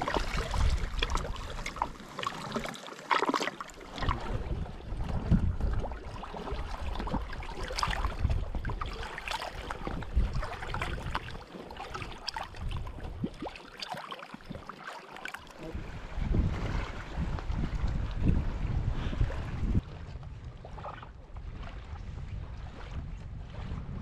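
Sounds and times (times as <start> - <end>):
wind rumble on microphone: 0.0 - 1.9, 3.9 - 13.6, 15.6 - 24.0
waves lapping against rocks: 0.0 - 24.0.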